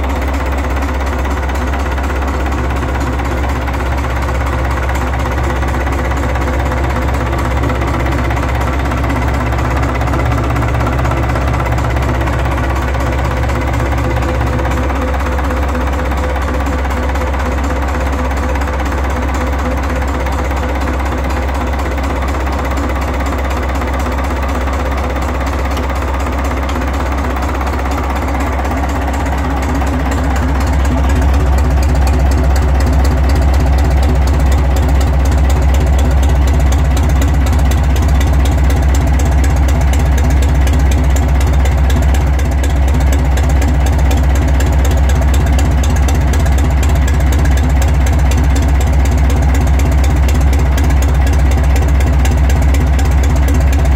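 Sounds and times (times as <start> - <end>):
marine diesel engine running: 0.0 - 53.9.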